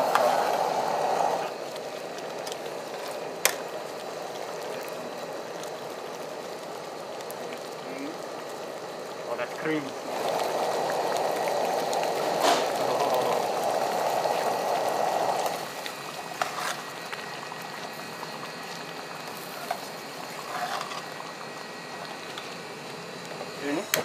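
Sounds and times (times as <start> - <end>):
dal bubbling in a pan: 0.0 - 24.0.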